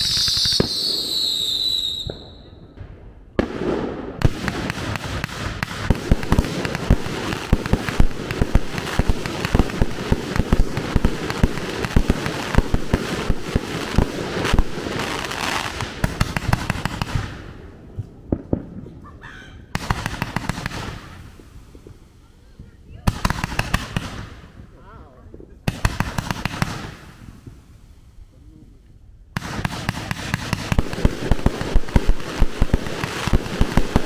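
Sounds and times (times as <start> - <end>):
fireworks cracking and popping: 0.0 - 34.0.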